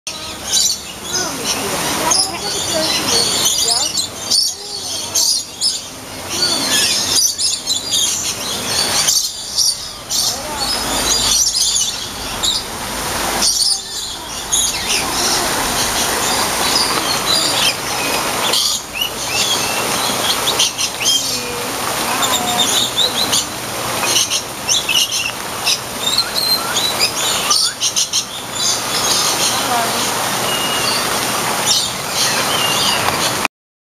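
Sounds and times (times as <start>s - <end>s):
birds chirping: 0.1s - 33.4s
steady background hiss: 0.2s - 33.4s.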